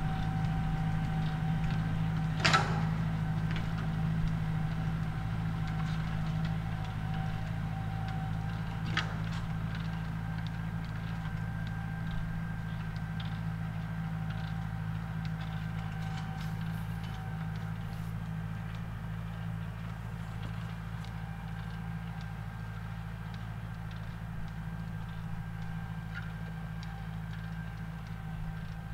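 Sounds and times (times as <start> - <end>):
tractor diesel engine running: 0.0 - 28.9
light ticks and clicks: 5.4 - 28.9.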